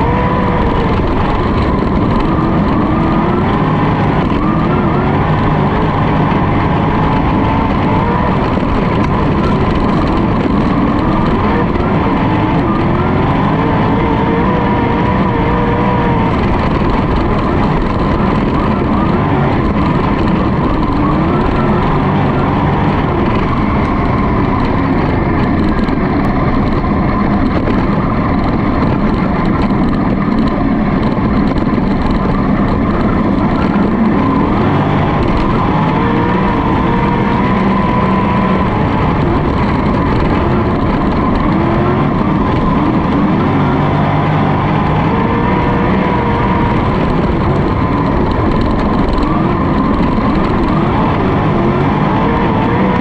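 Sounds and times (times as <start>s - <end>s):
race car engine at full throttle: 0.0s - 53.0s.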